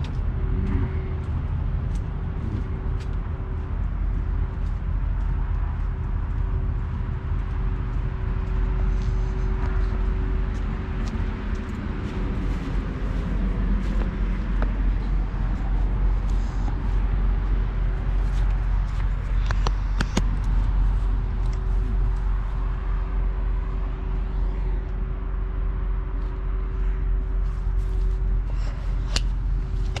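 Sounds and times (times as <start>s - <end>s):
steady hum: 0.0s - 30.0s
truck engines idling: 0.0s - 30.0s.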